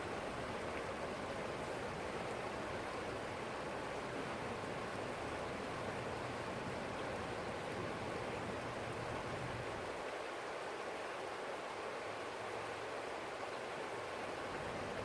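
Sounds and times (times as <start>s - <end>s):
stream flowing over rocks: 0.0s - 15.0s.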